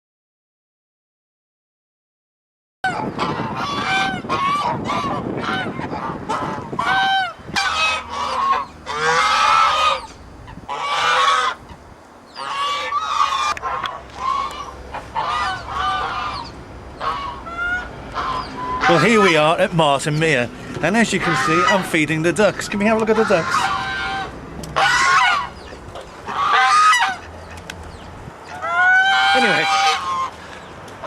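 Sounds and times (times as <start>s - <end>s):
geese and ducks calling: 2.9s - 31.0s.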